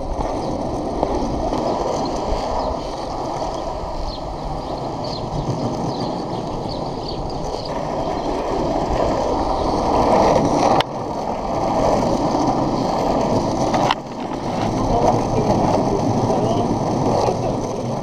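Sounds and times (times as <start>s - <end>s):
skateboard wheels rolling on asphalt: 0.0s - 18.0s.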